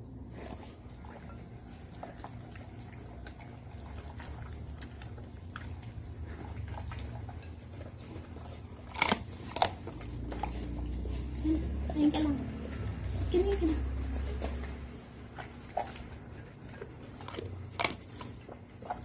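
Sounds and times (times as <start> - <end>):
dog chewing from glass bowl: 0.6 - 19.0.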